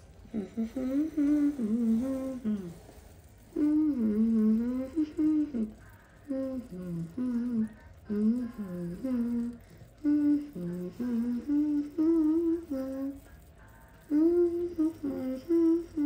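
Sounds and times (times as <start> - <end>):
woman humming: 0.0 - 16.0.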